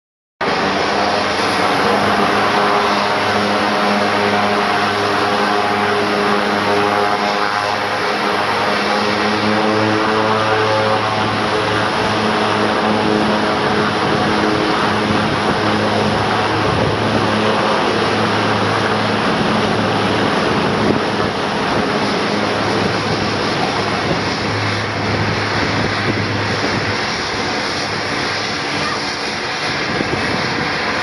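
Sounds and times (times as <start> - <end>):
turboprop engines droning: 0.4 - 31.0.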